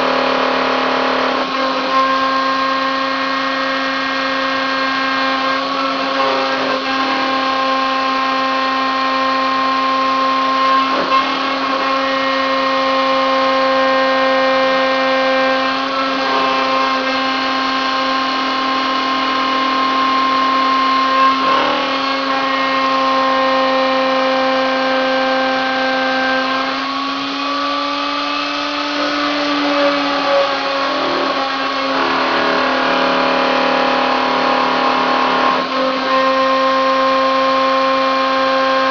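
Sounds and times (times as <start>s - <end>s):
milling spindle whine: 0.0s - 38.9s.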